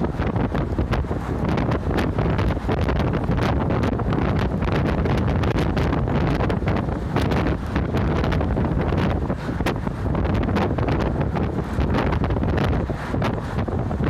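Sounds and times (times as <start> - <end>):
bus engine and road rumble: 0.0 - 14.0
wind buffeting microphone: 0.0 - 14.0.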